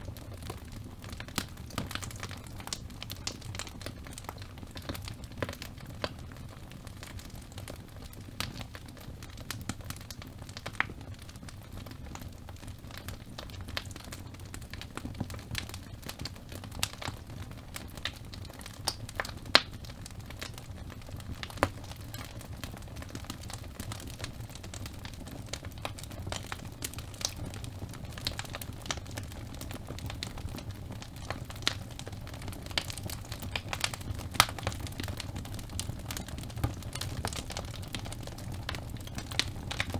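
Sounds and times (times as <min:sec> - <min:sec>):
burning logs crackling: 0:00.0 - 0:39.9
low rumble of flames: 0:00.0 - 0:39.9.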